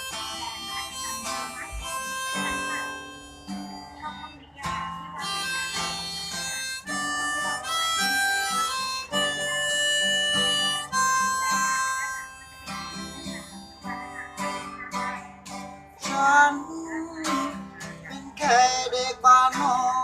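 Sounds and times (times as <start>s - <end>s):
guitar accompaniment: 0.0s - 20.0s
harmonica melody: 0.0s - 20.0s.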